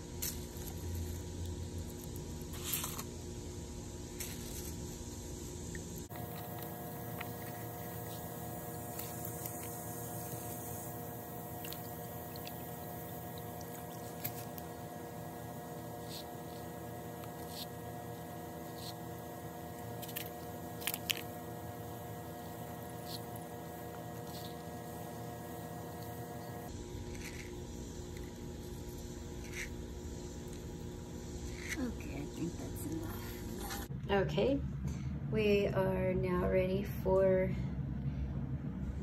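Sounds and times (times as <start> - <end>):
steady hum of held tones: 0.0 - 39.0.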